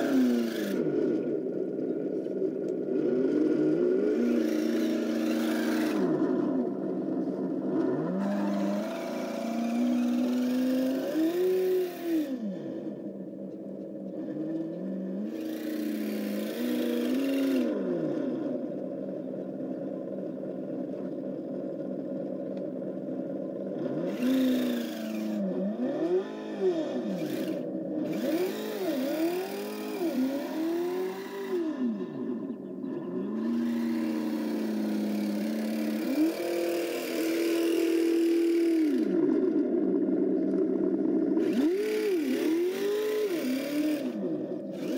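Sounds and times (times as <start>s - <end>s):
simulated engine revving: 0.0s - 44.9s.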